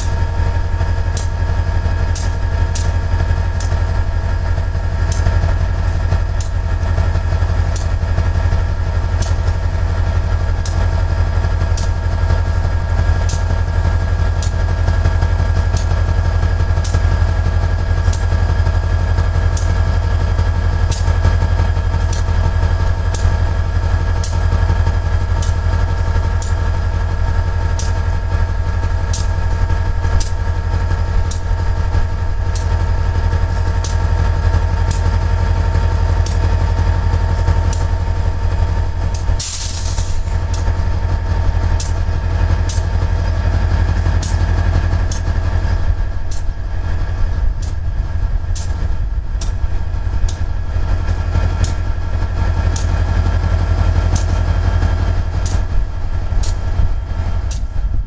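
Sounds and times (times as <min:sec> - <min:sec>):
locomotive idling rumble: 0:00.0 - 0:58.0.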